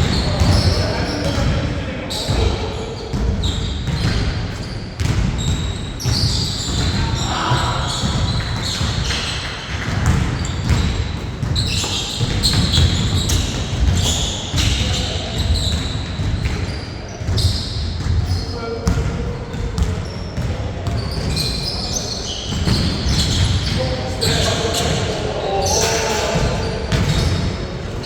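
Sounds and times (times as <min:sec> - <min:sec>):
basketball bouncing on court: 0:02.2 - 0:25.0, 0:26.2 - 0:28.0.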